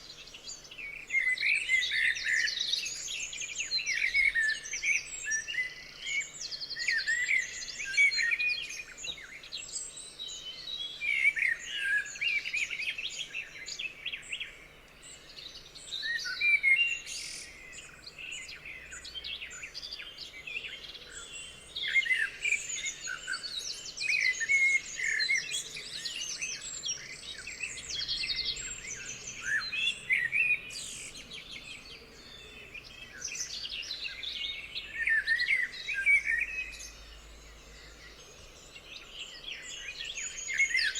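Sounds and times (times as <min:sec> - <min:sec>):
songbirds singing and calling: 0:00.0 - 0:40.9.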